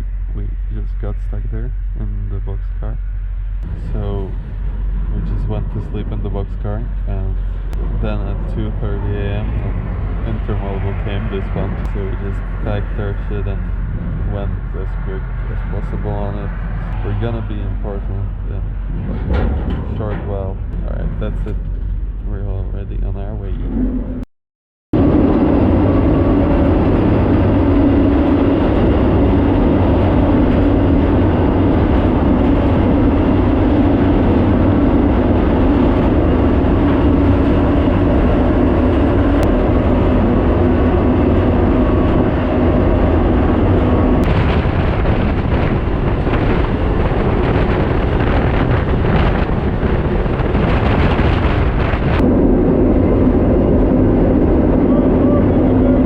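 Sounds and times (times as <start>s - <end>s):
freight train rumbling: 0.0s - 24.2s, 25.0s - 56.0s
low hum: 0.0s - 24.3s, 25.0s - 56.0s.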